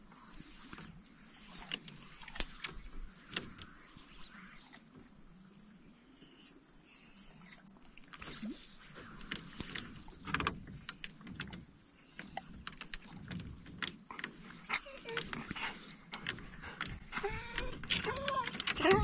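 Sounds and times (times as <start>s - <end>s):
fishing line and reel clicks: 0.1s - 5.6s, 7.2s - 19.0s.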